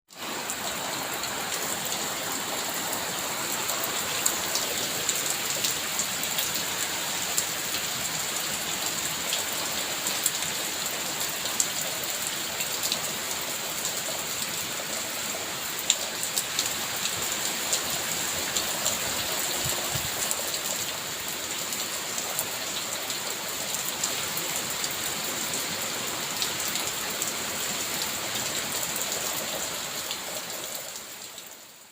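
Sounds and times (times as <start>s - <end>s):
steady rain hiss: 0.1s - 31.9s.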